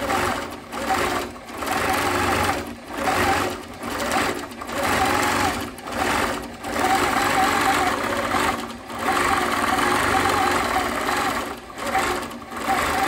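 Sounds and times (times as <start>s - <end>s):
quilting machine stitching: 0.0s - 13.0s.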